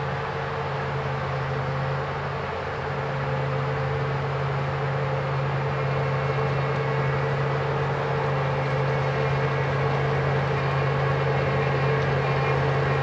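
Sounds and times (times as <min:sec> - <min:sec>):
combine harvester engine drone: 0:00.0 - 0:13.0
steady machine hum: 0:00.0 - 0:13.0.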